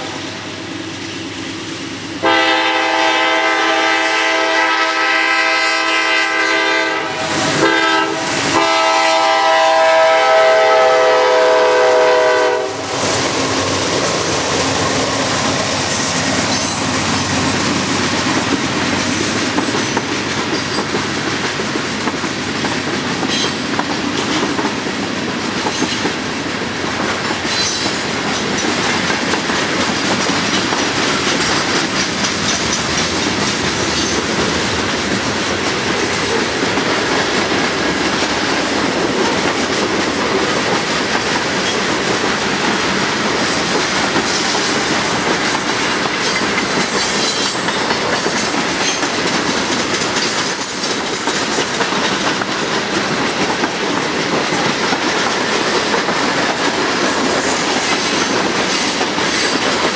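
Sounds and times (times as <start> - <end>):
freight train rumbling past: 0.0 - 59.9
train wheels clicking over rails: 0.0 - 59.9.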